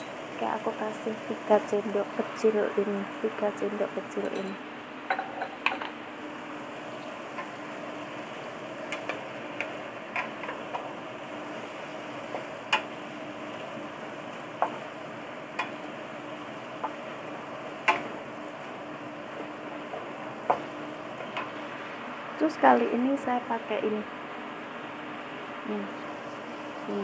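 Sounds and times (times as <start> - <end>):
stir-fry sizzling in a wok: 0.0 - 27.0.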